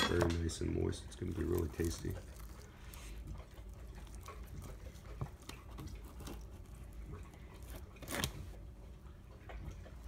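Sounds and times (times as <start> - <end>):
meat tearing and squishing: 0.7 - 8.8.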